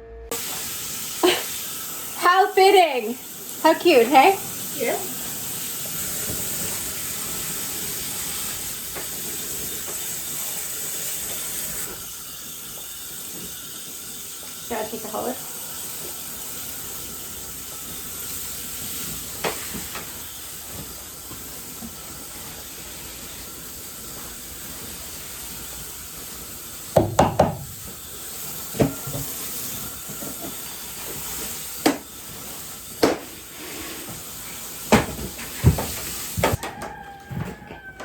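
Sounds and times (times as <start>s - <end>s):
hose water hissing: 0.3s - 37.0s.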